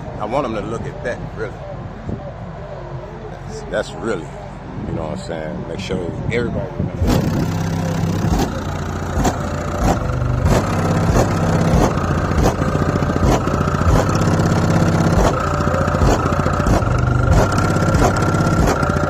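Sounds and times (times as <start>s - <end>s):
rap music through car stereo: 0.0s - 19.0s.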